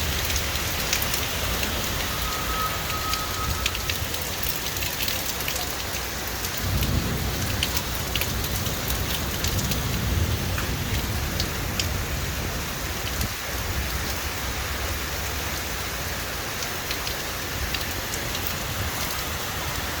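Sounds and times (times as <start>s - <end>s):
thunder rumbling: 0.0s - 5.2s, 6.3s - 15.0s, 17.5s - 20.0s
heavy rain: 0.0s - 20.0s
raindrop ticks: 0.0s - 20.0s.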